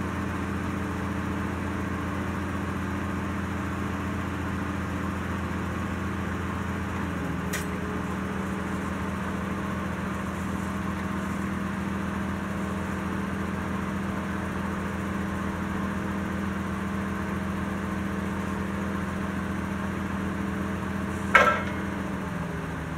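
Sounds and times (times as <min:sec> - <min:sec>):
forklift engine idling: 0:00.0 - 0:22.9.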